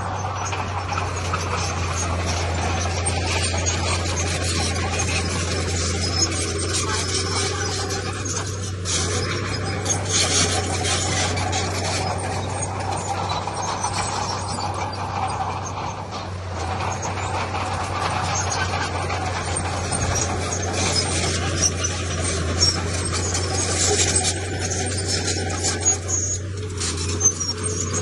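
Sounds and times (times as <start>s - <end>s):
diesel machinery engine hum: 0.0s - 28.0s.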